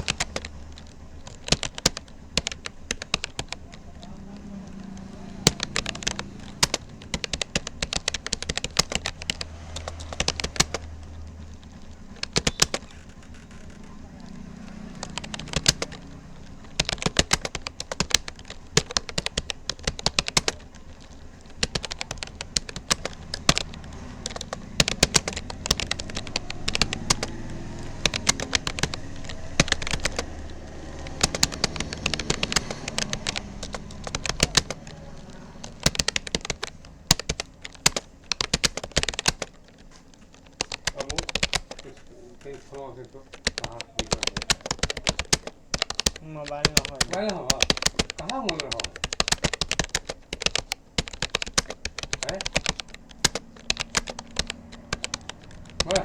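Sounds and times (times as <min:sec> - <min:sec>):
keyboard typing clicks: 0:00.0 - 0:56.0.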